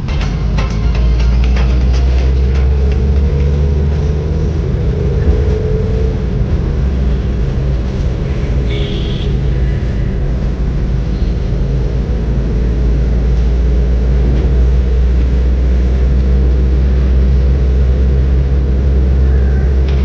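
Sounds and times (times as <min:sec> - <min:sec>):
car engine and tyre hum: 0:00.0 - 0:20.0.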